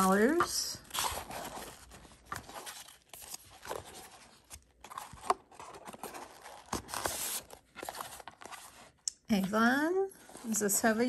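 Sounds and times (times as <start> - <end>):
paper rustling and crinkling: 0.0 - 9.0.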